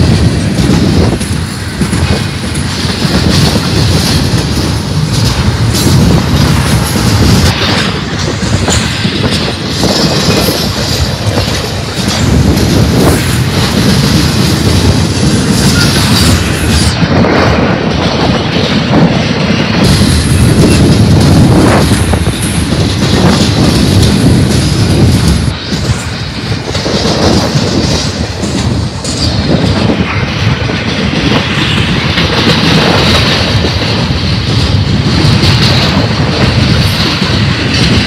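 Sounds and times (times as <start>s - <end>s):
freight train wheels clacking: 0.0s - 38.0s
wind buffeting microphone: 0.0s - 38.0s.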